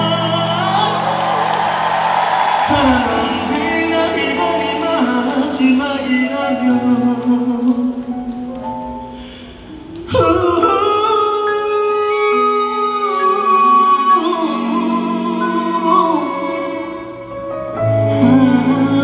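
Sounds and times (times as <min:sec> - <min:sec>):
live ballad music: 0:00.0 - 0:19.0.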